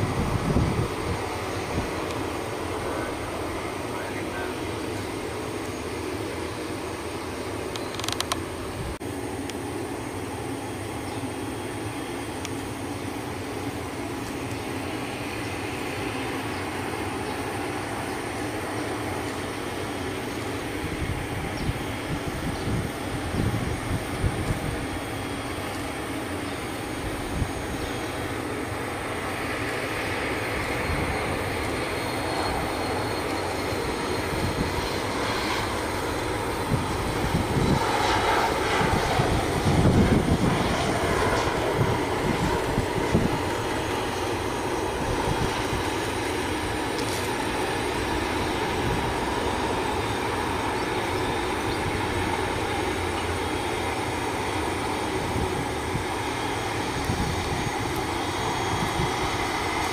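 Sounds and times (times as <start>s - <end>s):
jet airliner landing: 0.0s - 59.9s.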